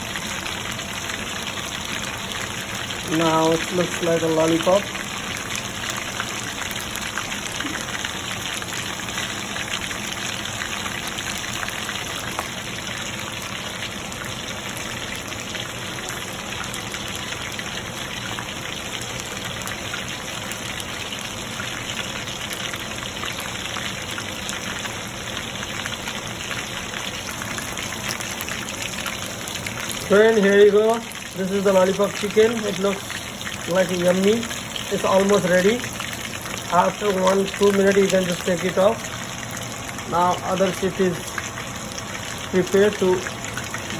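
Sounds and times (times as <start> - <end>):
food sizzling in oil: 0.0 - 43.9.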